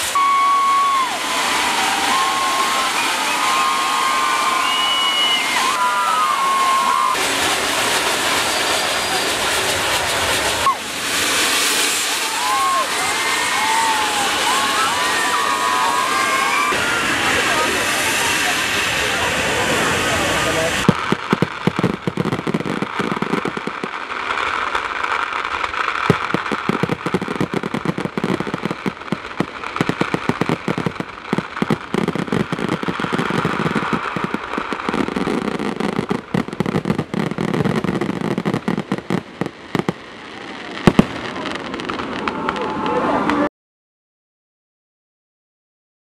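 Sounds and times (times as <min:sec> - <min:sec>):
firecrackers crackling: 0:00.0 - 0:43.5
fireworks bangs: 0:00.0 - 0:43.5.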